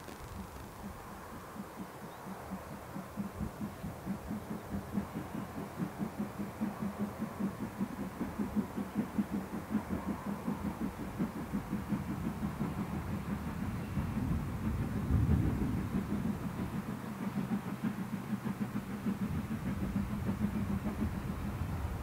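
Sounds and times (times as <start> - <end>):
steam locomotive exhaust beats: 0.0 - 22.0.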